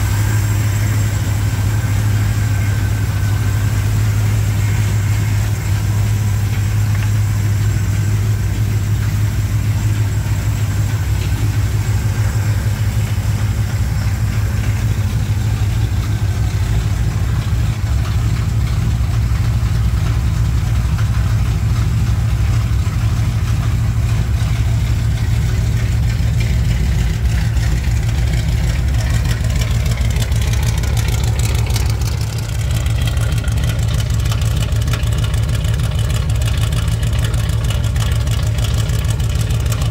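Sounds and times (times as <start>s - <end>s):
pickup engine idling: 0.0s - 39.9s.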